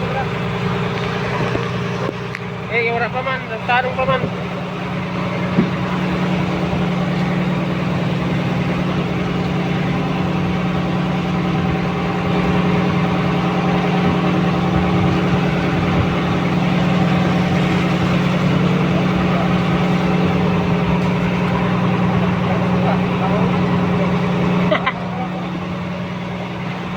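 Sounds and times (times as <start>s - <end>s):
boat engine running: 0.0s - 26.9s.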